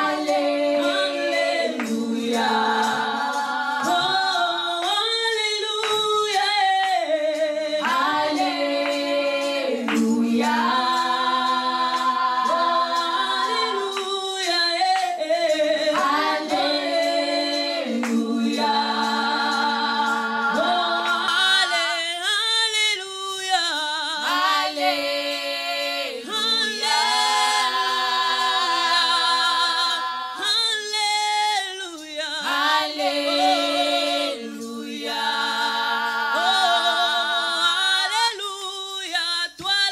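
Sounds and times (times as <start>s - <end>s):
voices singing worship song: 0.0s - 39.9s.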